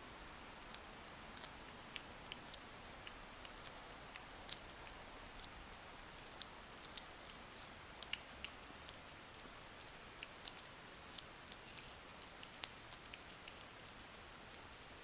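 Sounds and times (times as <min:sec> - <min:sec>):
cat chewing food: 0:00.0 - 0:15.0
faint steady hiss: 0:00.0 - 0:15.0.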